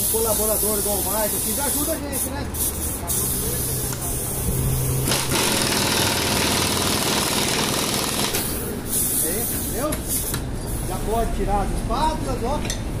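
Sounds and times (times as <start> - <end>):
air pump running with hissing: 0.0 - 11.1.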